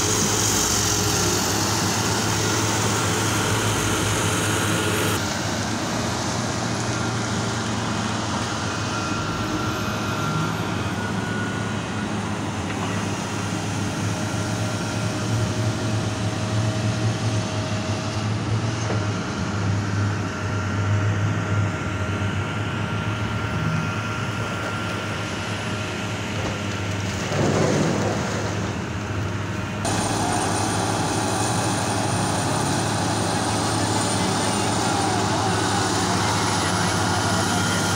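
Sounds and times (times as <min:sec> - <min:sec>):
faint machinery whines: 0:00.0 - 0:37.9
heavy machinery diesel drone: 0:00.0 - 0:37.9.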